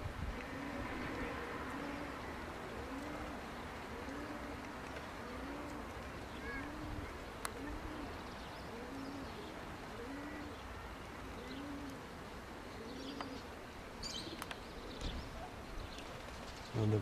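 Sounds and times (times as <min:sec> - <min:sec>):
pigeon cooing: 0:00.4 - 0:10.6, 0:11.3 - 0:15.6.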